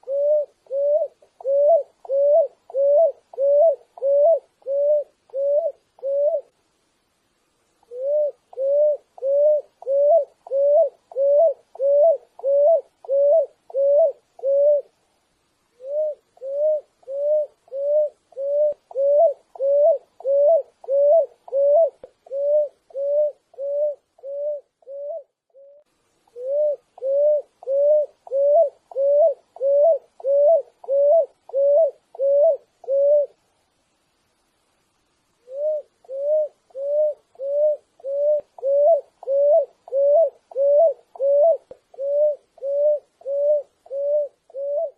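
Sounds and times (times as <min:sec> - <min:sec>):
dove cooing: 0:00.0 - 0:06.5, 0:07.9 - 0:15.0, 0:15.8 - 0:33.4, 0:35.4 - 0:44.9.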